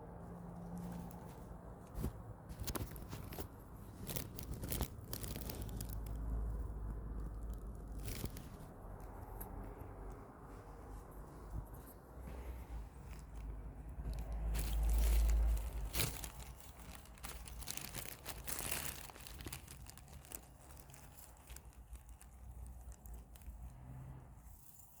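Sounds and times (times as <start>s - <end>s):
crinkly fabric rustling: 0.2s - 23.8s.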